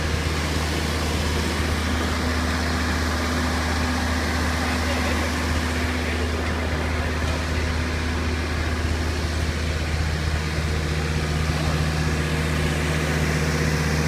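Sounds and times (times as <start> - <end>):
train engine idling: 0.0 - 14.0.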